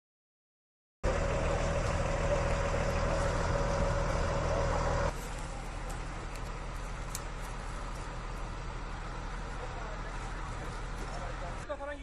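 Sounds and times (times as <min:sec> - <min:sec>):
steady engine whine: 0:01.0 - 0:12.0
truck engine running: 0:01.0 - 0:12.0.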